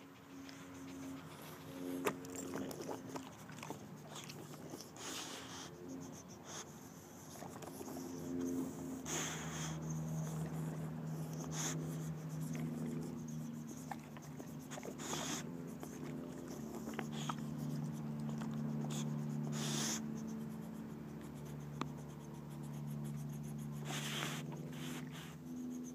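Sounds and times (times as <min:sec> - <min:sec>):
dog breathy puffs: 0:00.0 - 0:25.9.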